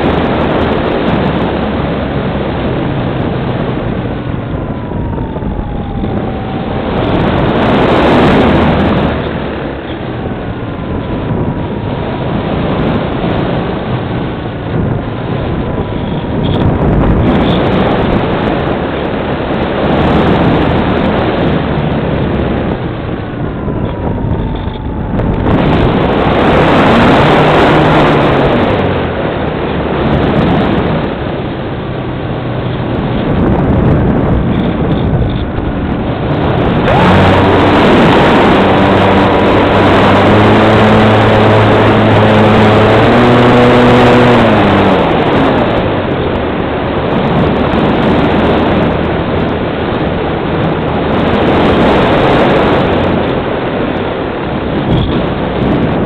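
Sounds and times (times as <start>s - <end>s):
electric motor and propeller hum: 0.0s - 56.0s
wind rushing over camera: 0.0s - 56.0s.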